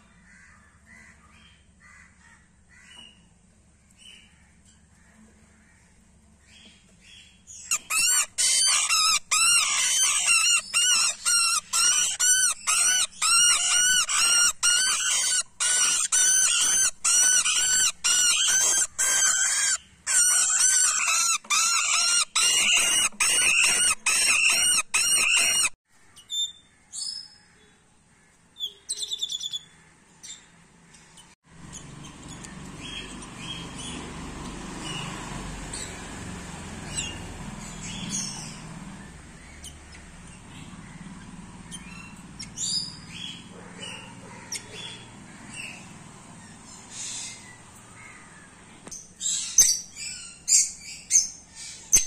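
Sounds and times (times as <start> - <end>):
small parrots calling: 4.0 - 27.2, 31.6 - 34.1, 34.8 - 52.0.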